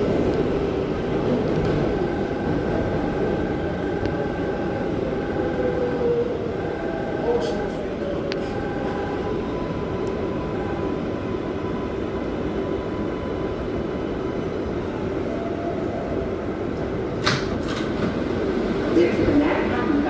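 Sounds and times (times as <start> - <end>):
subway car rumble and rail noise: 0.0 - 20.0.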